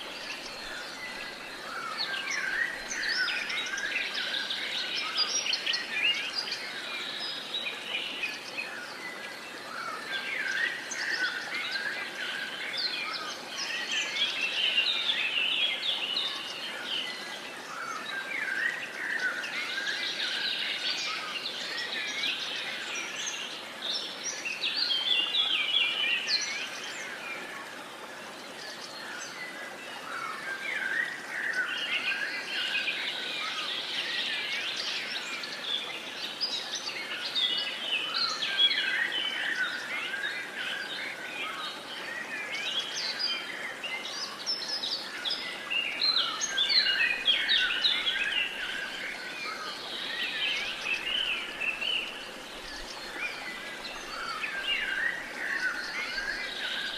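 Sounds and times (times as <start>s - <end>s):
songbirds singing and chirping: 0.0s - 56.9s.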